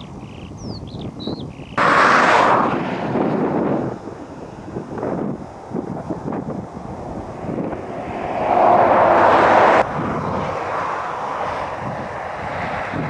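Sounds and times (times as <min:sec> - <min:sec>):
wind buffeting the microphone: 0:00.0 - 0:13.0
loud rushing noise: 0:01.8 - 0:13.0.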